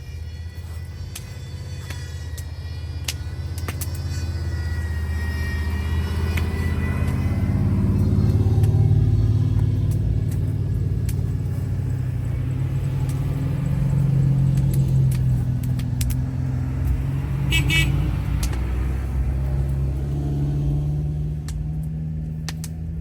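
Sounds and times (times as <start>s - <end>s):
four-wheeler engines droning: 0.0s - 23.0s
gear whine: 0.0s - 23.0s.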